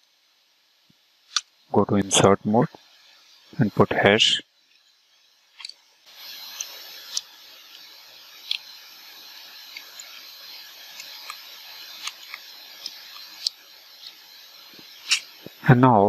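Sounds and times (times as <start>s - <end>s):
microphone hiss: 0.0s - 4.9s, 5.5s - 16.0s.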